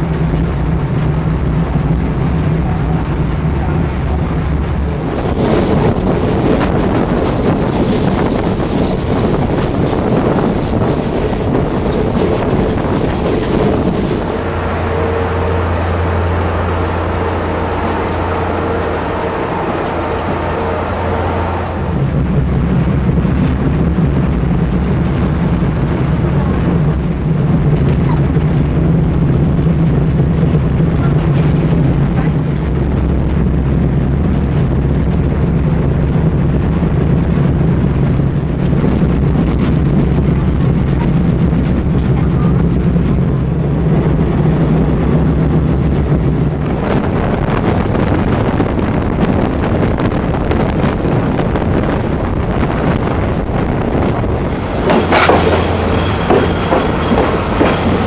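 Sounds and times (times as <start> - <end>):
train interior low hum: 0.0 - 58.0
train rattle: 0.0 - 58.0
train wheels rumbling on track: 0.0 - 58.0.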